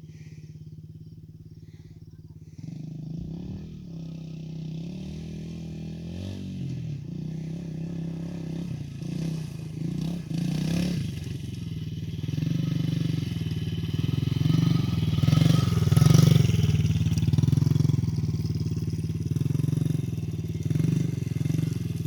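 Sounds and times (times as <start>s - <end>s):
small motorbike engine revving: 0.0s - 22.0s.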